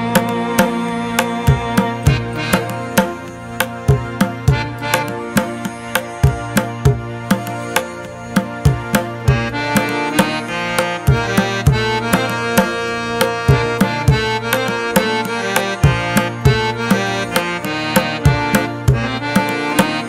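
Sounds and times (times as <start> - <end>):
hand drum beat: 0.0 - 20.0
sustained melodic instrument: 0.0 - 20.0.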